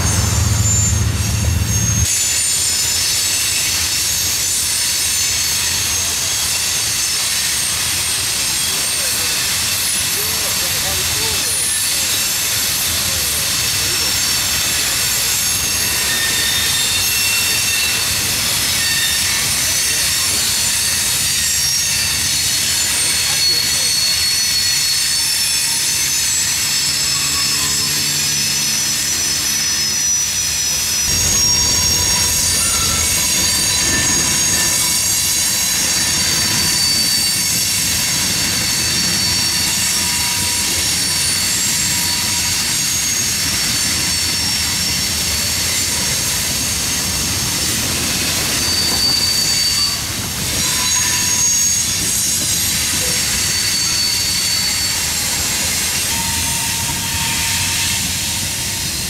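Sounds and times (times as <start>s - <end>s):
freight train rumble: 0.0s - 59.0s
train wheels squealing: 0.0s - 59.0s.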